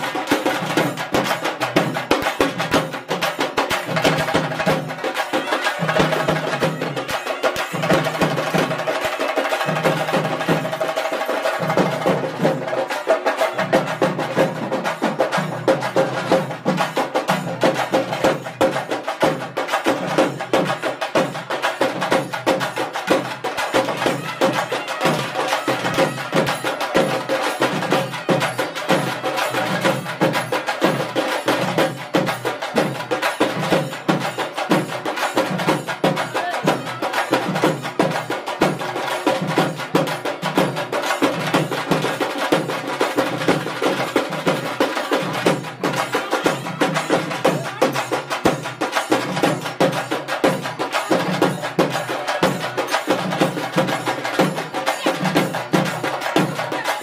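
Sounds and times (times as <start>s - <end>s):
fast sharp drum strokes: 0.0s - 57.0s.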